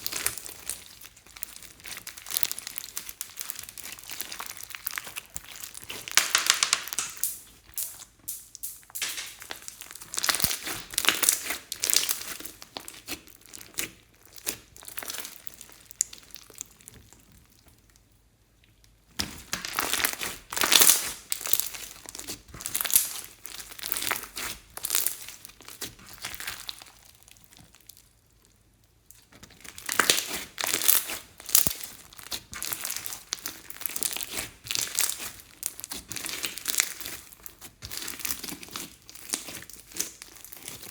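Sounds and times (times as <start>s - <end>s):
slime squeezed by hand crackling: 0.0s - 16.9s, 19.2s - 27.7s, 29.2s - 40.9s.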